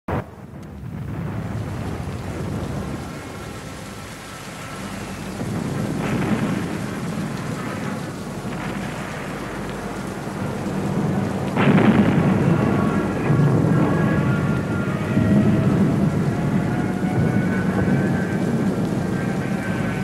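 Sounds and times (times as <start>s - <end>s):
constant rushing noise: 0.1s - 20.0s
distant explosions booming: 0.1s - 20.0s.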